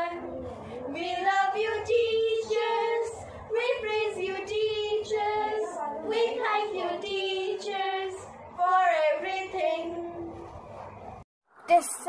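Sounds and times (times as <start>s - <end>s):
girls singing unaccompanied: 0.0s - 10.4s.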